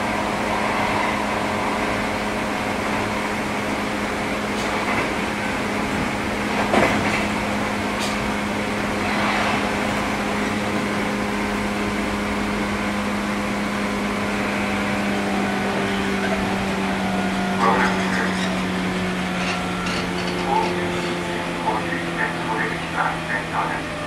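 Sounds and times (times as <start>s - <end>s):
train equipment hum and rumble: 0.0s - 24.0s.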